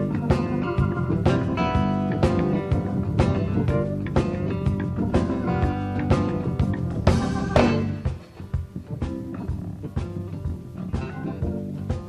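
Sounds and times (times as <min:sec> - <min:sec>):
live band playing funky blues: 0:00.0 - 0:12.0.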